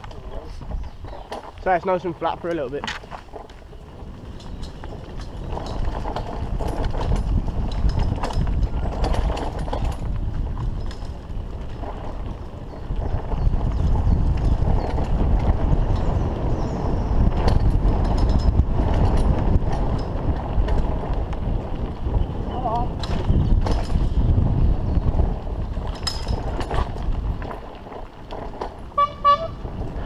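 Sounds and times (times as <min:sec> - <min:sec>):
bike frame and chain rattling: 0:00.0 - 0:30.0
bike tyres on dirt: 0:00.0 - 0:30.0
wind buffeting microphone: 0:00.0 - 0:30.0.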